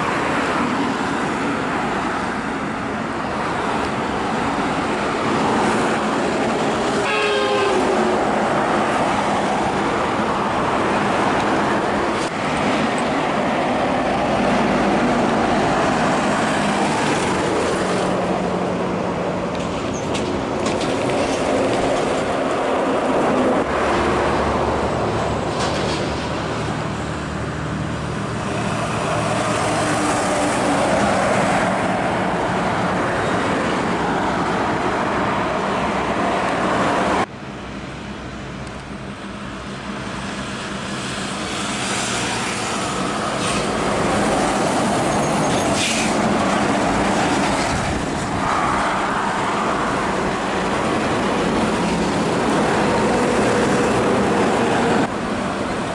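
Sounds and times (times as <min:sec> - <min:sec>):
diesel trucks engines under load: 0:00.0 - 0:55.9
tyre and road noise: 0:00.0 - 0:55.9.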